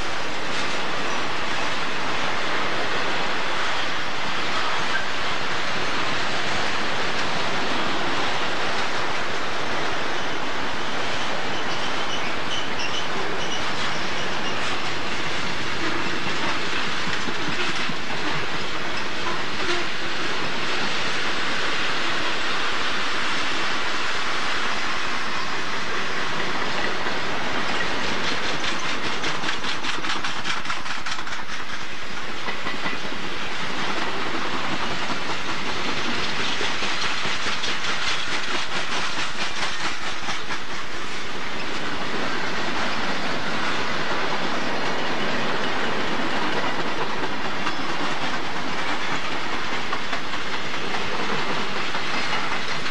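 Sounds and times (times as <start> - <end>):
clickety-clack of train wheels: 0.0 - 22.2, 24.6 - 52.9
steel train wheels on rail: 0.0 - 52.9.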